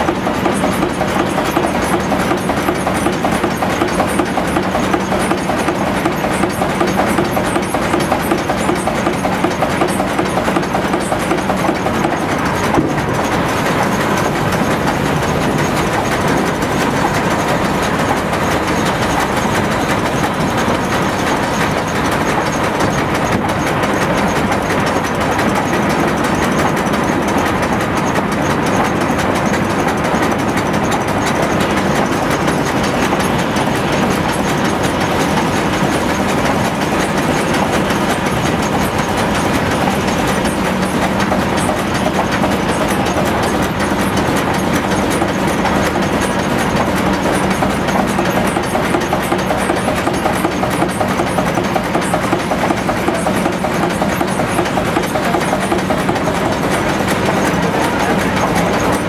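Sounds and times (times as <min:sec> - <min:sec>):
steam engine clatter: 0:00.0 - 0:59.0.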